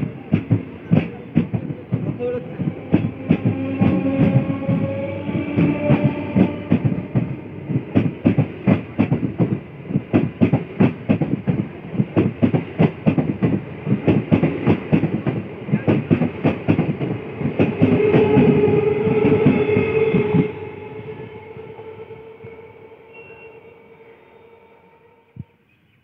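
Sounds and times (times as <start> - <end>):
steady train whine: 0.0 - 26.0.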